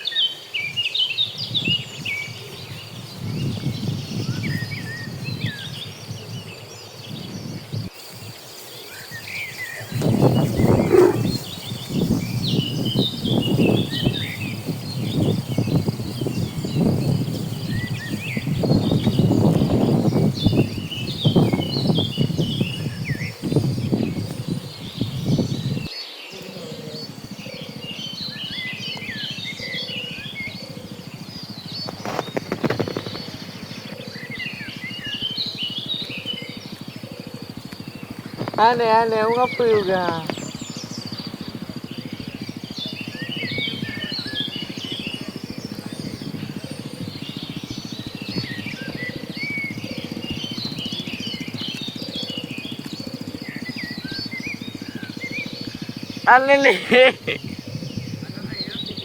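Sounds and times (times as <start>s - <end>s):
small birds chirping: 0.0s - 59.0s
fast low pulsing: 1.4s - 59.0s.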